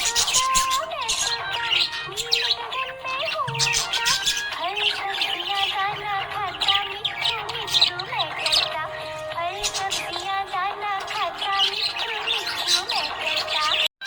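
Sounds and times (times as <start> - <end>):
music playing: 0.0 - 13.8
budgerigars chirping and warbling: 0.0 - 13.9.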